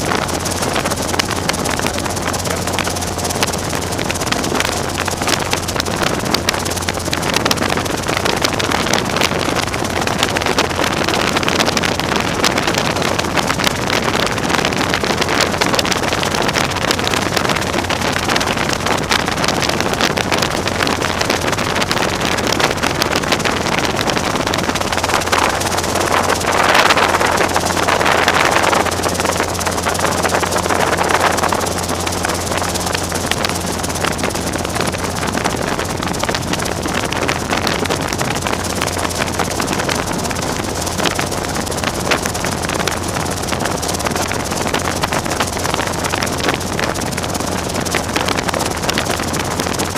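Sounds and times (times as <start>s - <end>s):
helicopter engine and rotor hum: 0.0s - 49.9s
rushing air noise: 0.0s - 49.9s
wind gusts: 0.0s - 49.9s.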